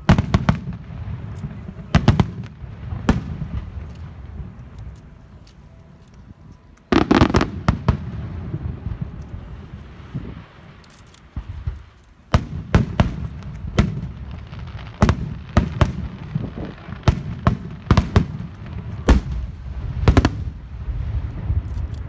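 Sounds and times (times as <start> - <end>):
fireworks bangs: 0.0 - 5.4, 6.9 - 22.0.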